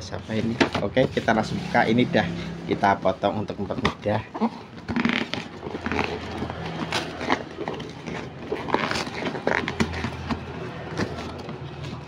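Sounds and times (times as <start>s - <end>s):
cardboard scraping and rustling: 0.2s - 2.1s, 2.8s - 12.0s.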